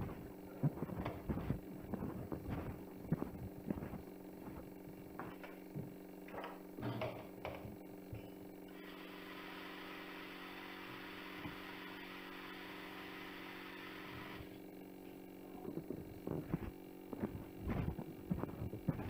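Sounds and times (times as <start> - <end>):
steady hum with hiss: 0.0 - 19.0.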